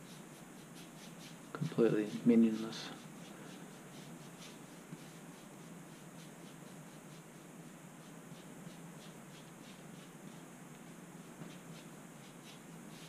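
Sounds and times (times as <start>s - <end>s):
paintbrush brushing on canvas: 0.0s - 13.0s.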